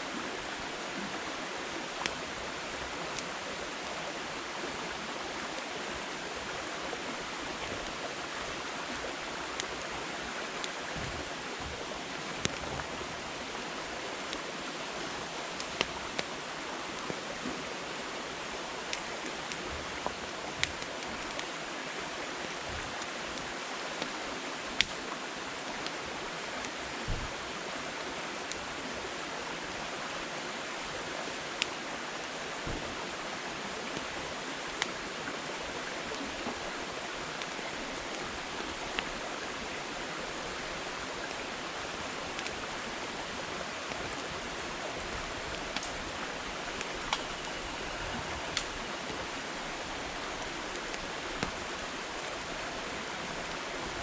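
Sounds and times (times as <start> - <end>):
wood fire crackling and popping: 1.9 - 28.7, 31.4 - 39.2, 41.2 - 51.8.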